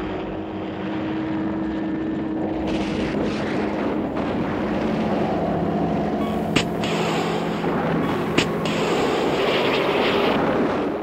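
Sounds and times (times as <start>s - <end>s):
helicopters flying low: 0.0s - 11.0s.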